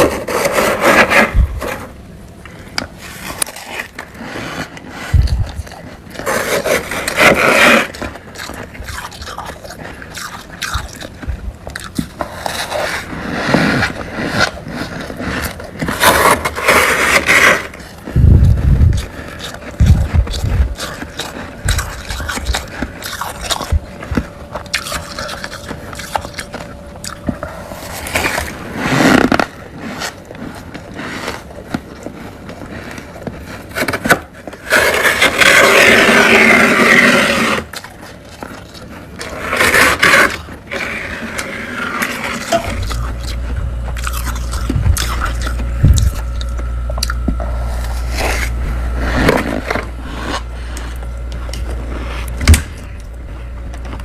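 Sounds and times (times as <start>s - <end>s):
frost scraping: 0.0s - 54.0s
steady low hum: 0.0s - 54.0s
frost crunching in mouth: 2.7s - 54.0s.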